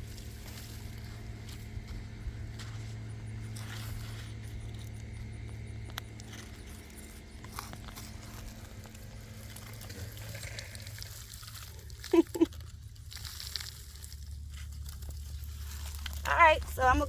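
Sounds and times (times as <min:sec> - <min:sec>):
hands digging in soil: 0:00.0 - 0:17.0
steady low hum: 0:00.0 - 0:17.0.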